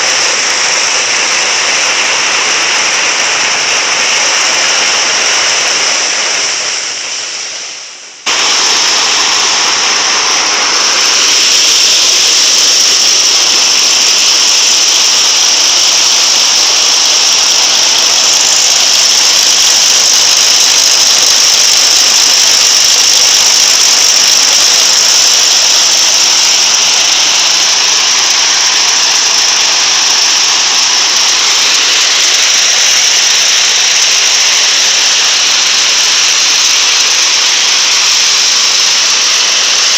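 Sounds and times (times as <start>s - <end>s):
threshing machine running: 0.0s - 39.9s.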